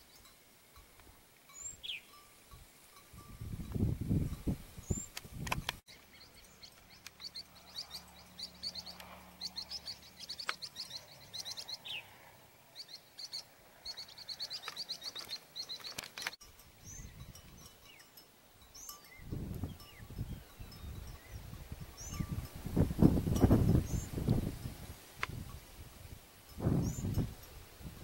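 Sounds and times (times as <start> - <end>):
small birds chirping: 1.5 - 2.3, 3.7 - 25.9, 26.6 - 27.6.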